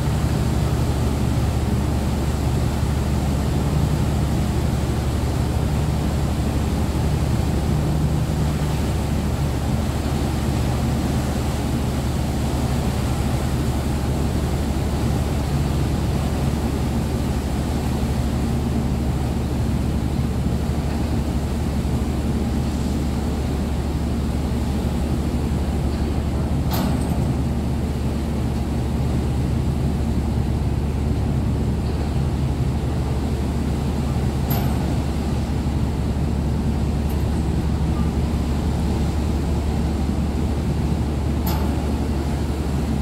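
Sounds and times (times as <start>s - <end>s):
ship engines rumbling: 0.0s - 43.0s.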